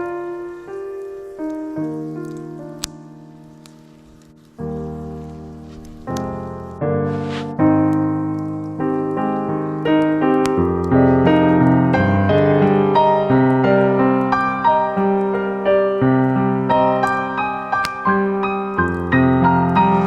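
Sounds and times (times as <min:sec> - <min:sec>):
calm piano music: 0:00.0 - 0:20.0.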